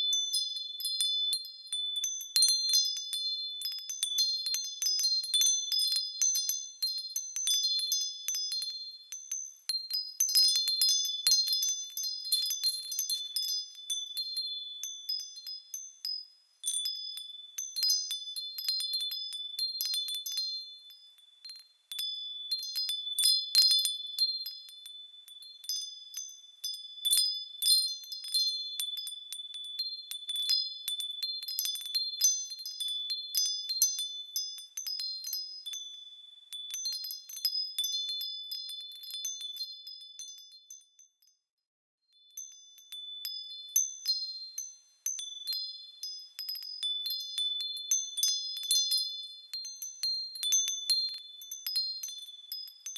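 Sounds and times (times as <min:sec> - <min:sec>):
small metal bells tinkling: 0:00.0 - 0:52.9.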